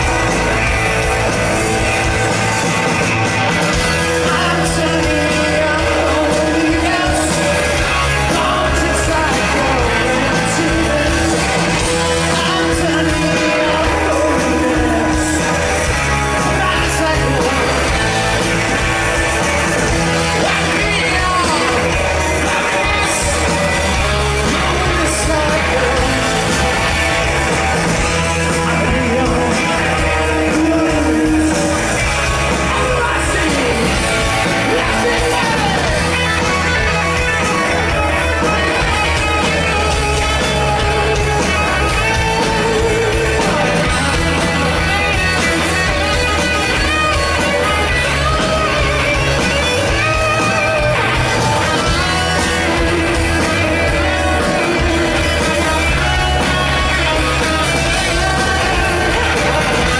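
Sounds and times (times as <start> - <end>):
electric guitar: 0.0 - 59.9
live rock band: 0.0 - 59.9
person singing: 0.0 - 59.9.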